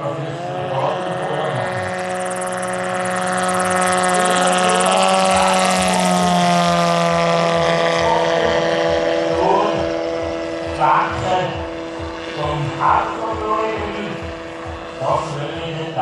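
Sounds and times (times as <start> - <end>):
electric motor and propeller droning: 0.0 - 16.0.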